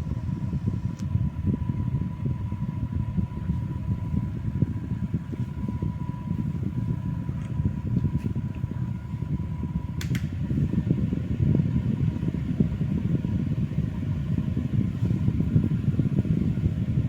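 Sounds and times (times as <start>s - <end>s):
faint steady whine: 0.0s - 17.0s
fan airflow buffeting microphone: 0.0s - 17.0s.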